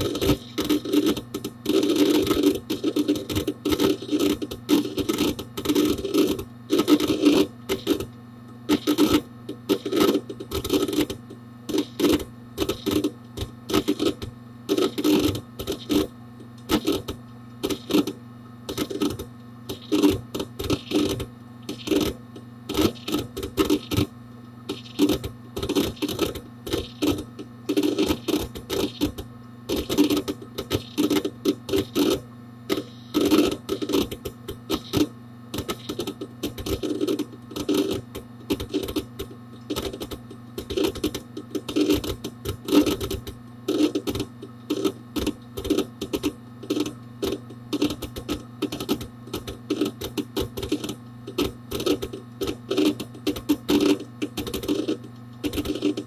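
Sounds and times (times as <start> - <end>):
computer steady hum: 0.0 - 56.0
hard disk seek clicking: 0.0 - 56.0.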